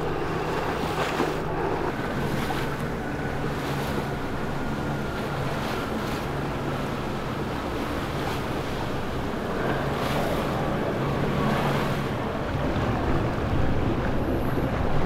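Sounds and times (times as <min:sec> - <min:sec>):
boat engine running: 0:00.0 - 0:15.0
churning water: 0:00.0 - 0:15.0
wind buffeting microphone: 0:00.0 - 0:15.0.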